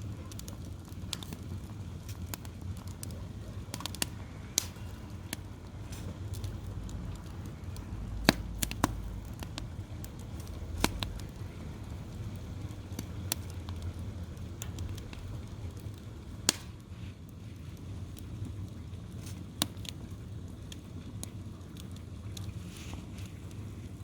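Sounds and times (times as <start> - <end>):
firewood fire crackling: 0.0 - 24.0
low steady rumble: 0.0 - 24.0.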